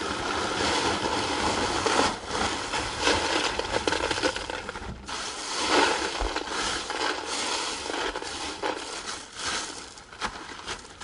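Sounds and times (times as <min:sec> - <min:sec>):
rocks rattling and crunching: 0:00.0 - 0:11.0.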